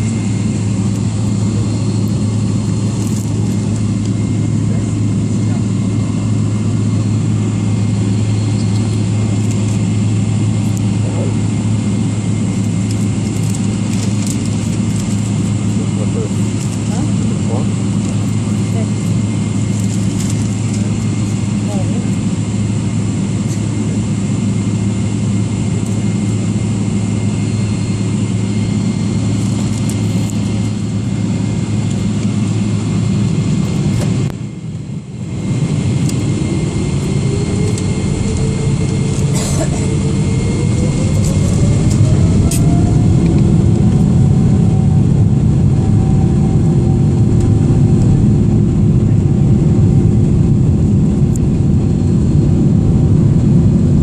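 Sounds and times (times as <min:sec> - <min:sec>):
jet engines heard from cabin: 0:00.0 - 0:54.0.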